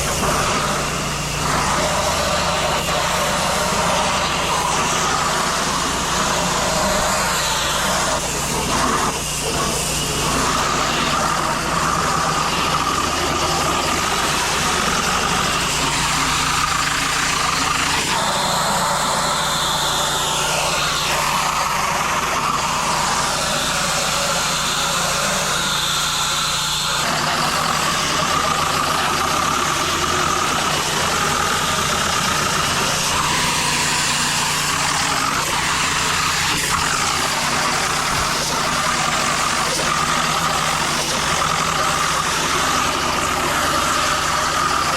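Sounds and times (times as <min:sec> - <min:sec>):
pressure washer engine running: 0:00.0 - 0:44.9.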